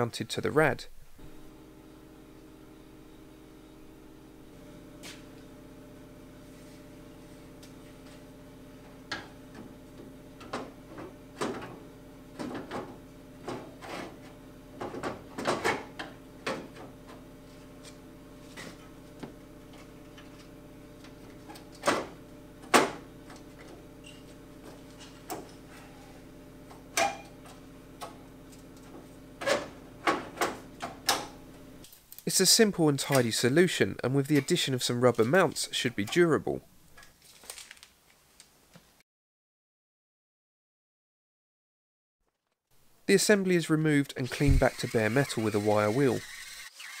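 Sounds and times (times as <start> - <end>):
workshop hum: 0.0 - 37.2, 42.7 - 47.0.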